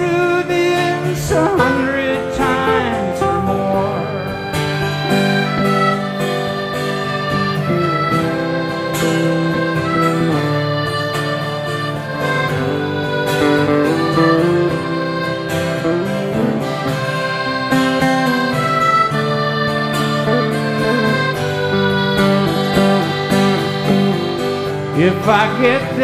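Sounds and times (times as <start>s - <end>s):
held melody notes: 0.0s - 26.0s
strummed guitar: 0.0s - 26.0s.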